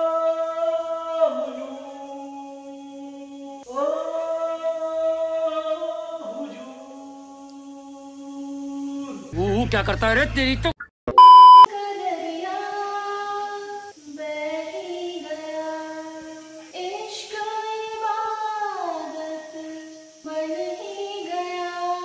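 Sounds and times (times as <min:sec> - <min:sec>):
woman singing into microphone: 0:00.0 - 0:09.3, 0:11.7 - 0:22.0.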